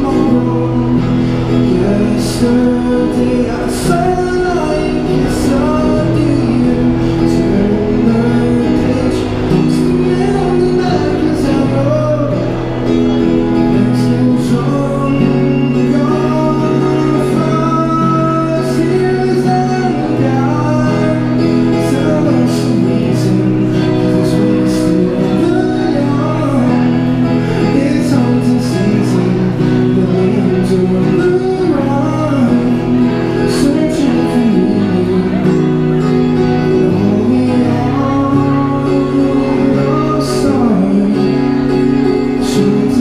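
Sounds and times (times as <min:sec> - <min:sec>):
man singing into a microphone: 0:00.0 - 0:43.0
strummed acoustic guitar: 0:00.0 - 0:43.0.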